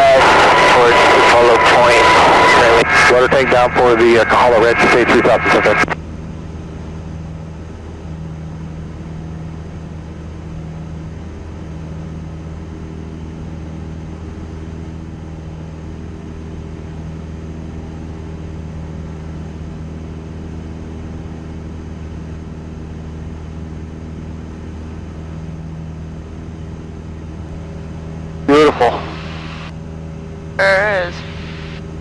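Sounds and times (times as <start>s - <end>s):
airplane engine droning in cabin: 0.0s - 32.0s.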